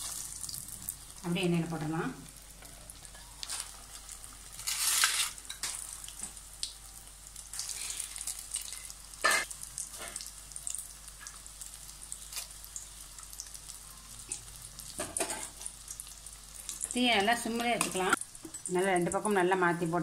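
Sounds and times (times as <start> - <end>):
chicken deep-frying in hot oil: 0.0 - 20.0.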